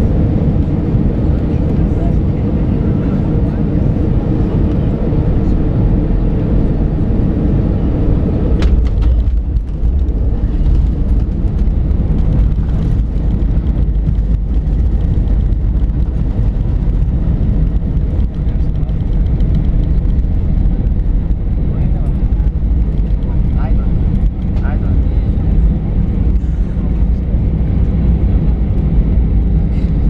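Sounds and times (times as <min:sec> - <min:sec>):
deep rumble of landing rollout: 0:00.0 - 0:30.0
jet engines in cabin: 0:00.0 - 0:30.0.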